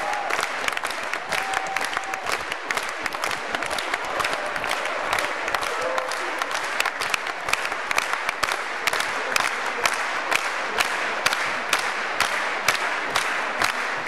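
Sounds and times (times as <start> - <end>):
audience clapping along in time: 0.0 - 14.0.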